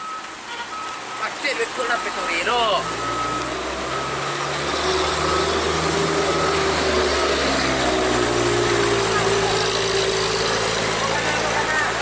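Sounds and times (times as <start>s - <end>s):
truck diesel engine labouring: 0.0s - 12.0s.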